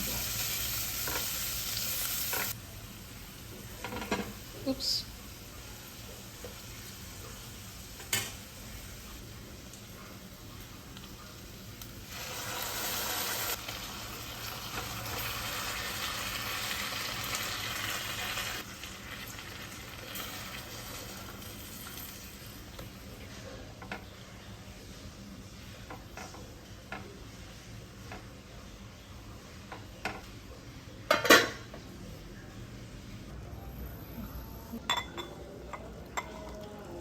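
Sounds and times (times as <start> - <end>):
food sizzling in a pan: 0.0 - 30.4.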